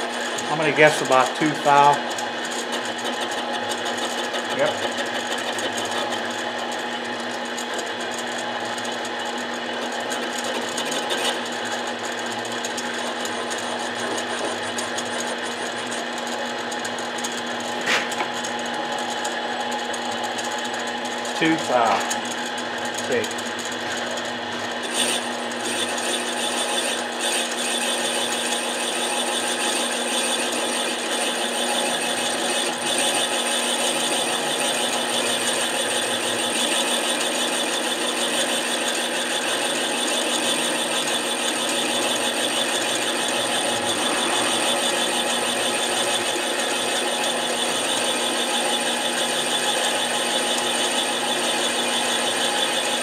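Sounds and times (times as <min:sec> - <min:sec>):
lathe motor whining: 0:00.0 - 0:53.0.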